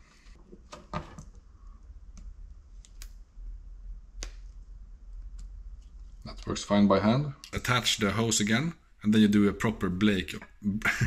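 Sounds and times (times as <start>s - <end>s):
steady low hum: 1.3s - 11.0s.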